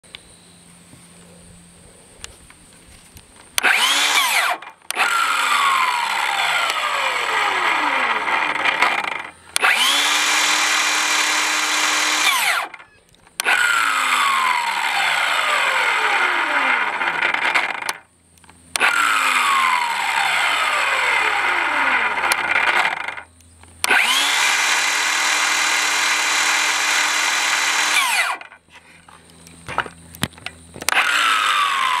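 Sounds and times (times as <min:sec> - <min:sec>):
circular saw motor whine: 0:00.0 - 0:32.0.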